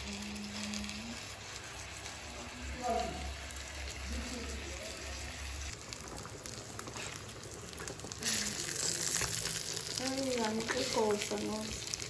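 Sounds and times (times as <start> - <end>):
pork sizzling in a pan: 0.0 - 12.0.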